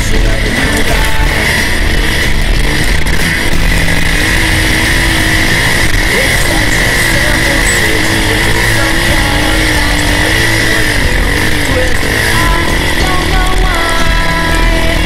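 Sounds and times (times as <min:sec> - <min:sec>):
dirt bike engine revving: 0:00.0 - 0:15.0
music: 0:00.0 - 0:15.0.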